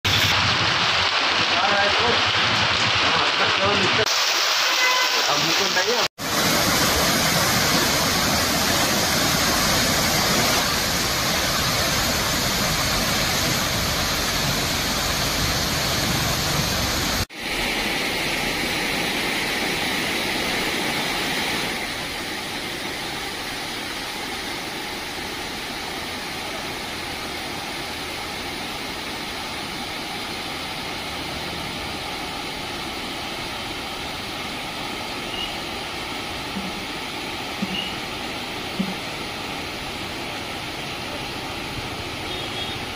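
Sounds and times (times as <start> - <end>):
water rushing over weir: 0.1 - 42.9.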